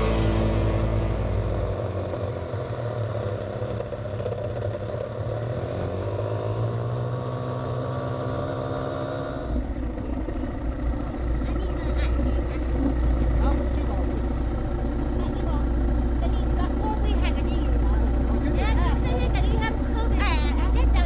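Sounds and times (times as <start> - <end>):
motorbike engine humming: 0.0 - 21.0.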